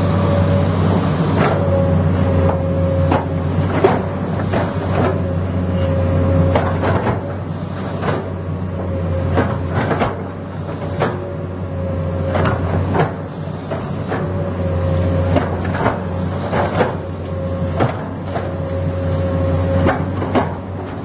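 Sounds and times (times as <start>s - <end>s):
excavator diesel engine drone: 0.0s - 21.0s
hydraulic whine: 0.0s - 21.0s.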